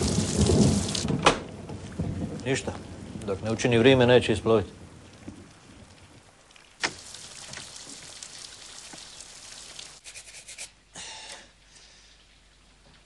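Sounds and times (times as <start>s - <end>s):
steady rain falling: 0.0s - 10.0s, 10.8s - 13.0s
crackles: 0.0s - 10.5s.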